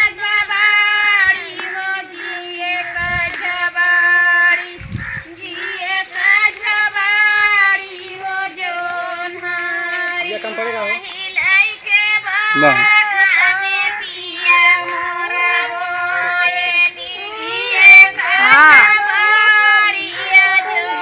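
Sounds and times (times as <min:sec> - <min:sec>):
women singing a folk song: 0:00.0 - 0:21.0.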